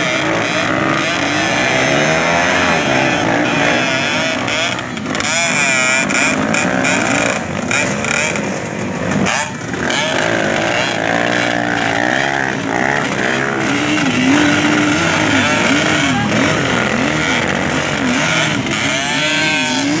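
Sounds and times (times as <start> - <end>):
dirt bike engine revving: 0.0 - 20.0
engine climbing in pitch: 0.0 - 20.0.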